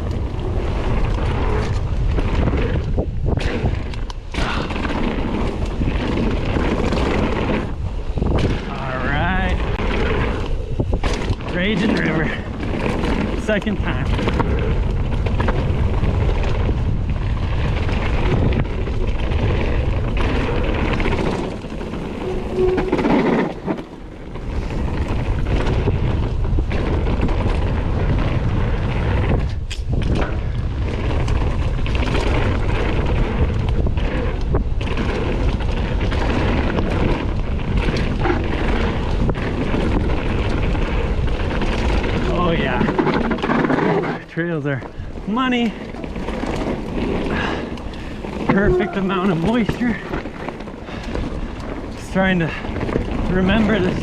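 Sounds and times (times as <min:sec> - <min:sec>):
bike knocks and rattles: 0:00.0 - 0:54.0
tyre noise on dirt: 0:00.0 - 0:54.0
wind buffeting microphone: 0:00.0 - 0:54.0.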